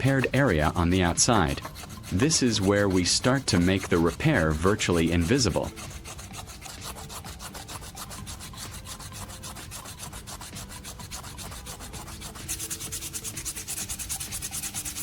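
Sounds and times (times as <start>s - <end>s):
sandpaper rubbing on hot glue: 0.0s - 15.0s.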